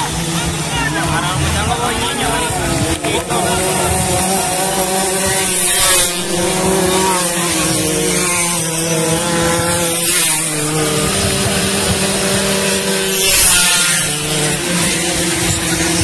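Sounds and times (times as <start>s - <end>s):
racing scooter engines: 0.0s - 16.0s.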